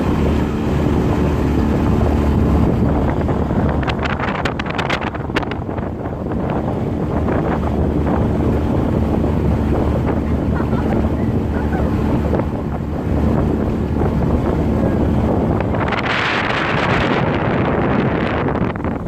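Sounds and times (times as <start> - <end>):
water rushing along hulls: 0.0 - 19.0
wind buffeting microphone: 0.0 - 19.0.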